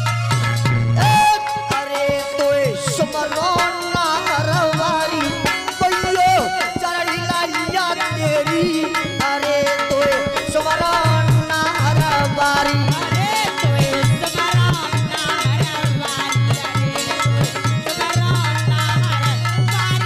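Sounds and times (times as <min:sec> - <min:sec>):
man singing: 0:00.5 - 0:20.0.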